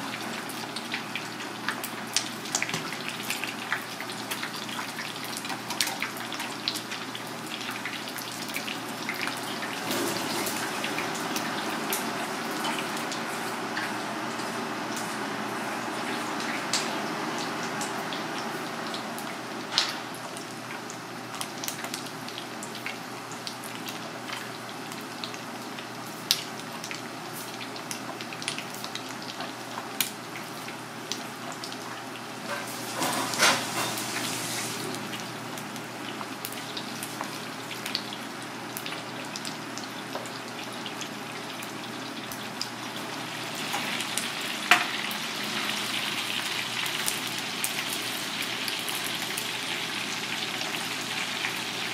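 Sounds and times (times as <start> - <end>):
fish deep-frying in oil: 0.0 - 51.9.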